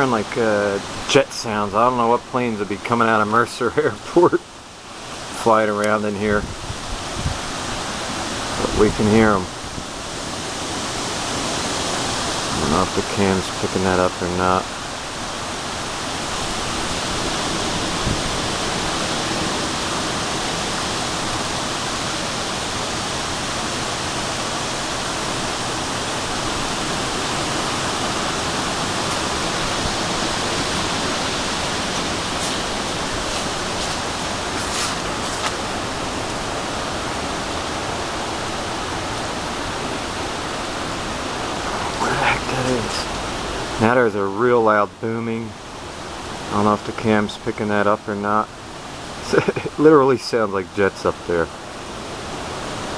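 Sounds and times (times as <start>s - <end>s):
storm wind roaring: 0.0s - 52.9s.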